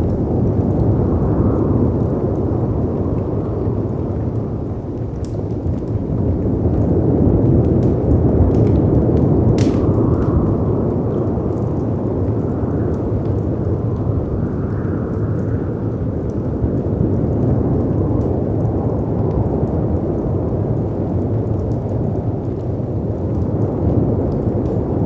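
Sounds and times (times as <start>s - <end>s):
fireplace crackling: 0.0s - 25.0s
howling wind: 0.0s - 25.0s.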